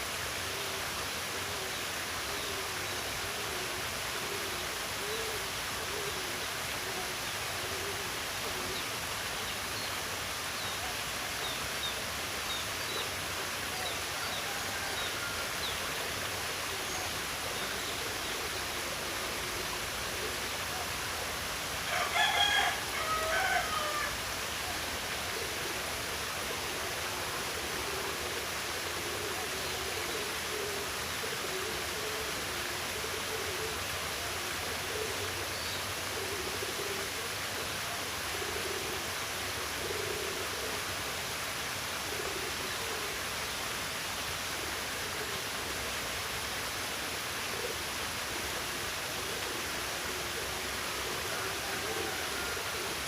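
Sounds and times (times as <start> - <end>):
flowing water: 0.0 - 53.0.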